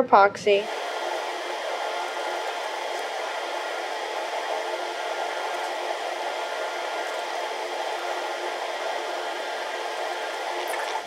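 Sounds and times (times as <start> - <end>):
steady rushing noise: 0.6 - 11.0.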